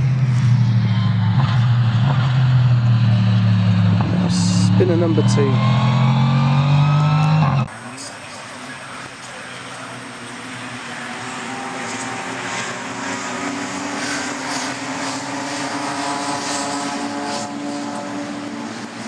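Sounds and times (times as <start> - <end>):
racing cars passing: 0.0 - 19.0.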